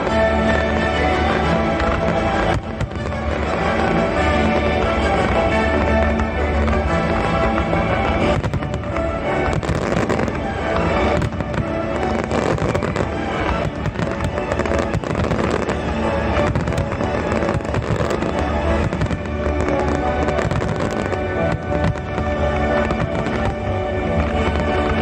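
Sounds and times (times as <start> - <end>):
fireworks bursting and crackling: 0.0 - 25.0
loud music: 0.0 - 25.0.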